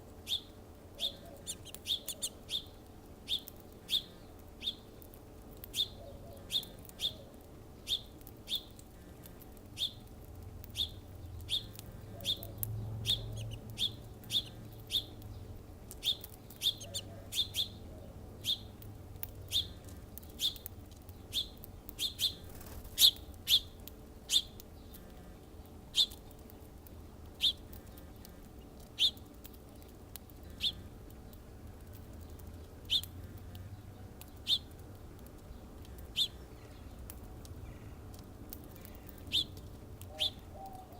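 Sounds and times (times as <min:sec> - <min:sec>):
faint low rumble: 0:00.0 - 0:40.9
bird chirping: 0:00.2 - 0:05.0, 0:05.7 - 0:08.8, 0:09.8 - 0:26.6, 0:27.4 - 0:30.9, 0:32.1 - 0:34.8, 0:35.4 - 0:38.0, 0:38.6 - 0:40.9.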